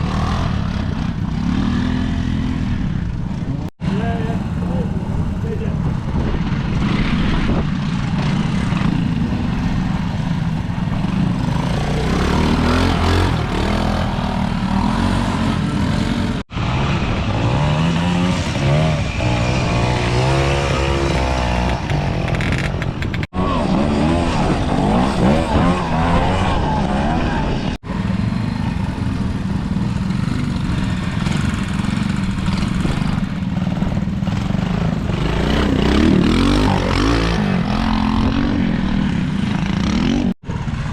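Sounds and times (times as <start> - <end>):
motorcycle engines blipping: 0.0 - 40.9.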